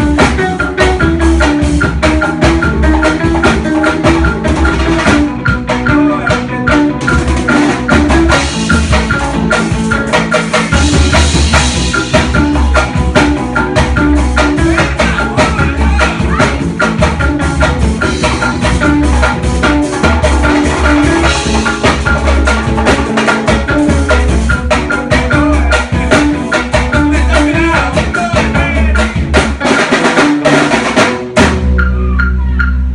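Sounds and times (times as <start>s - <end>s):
repeating melodic line: 0.0s - 29.4s
drums: 0.0s - 32.9s
pulsing bass: 0.0s - 32.9s.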